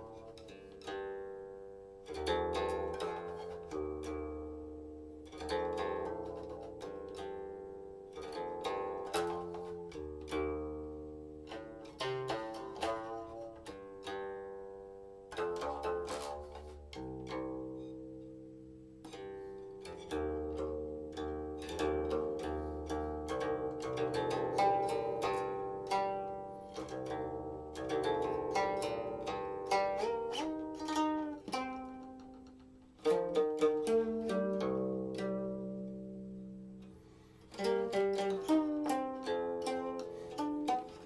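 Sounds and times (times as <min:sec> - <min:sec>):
plucked zither notes: 0:00.0 - 0:41.0.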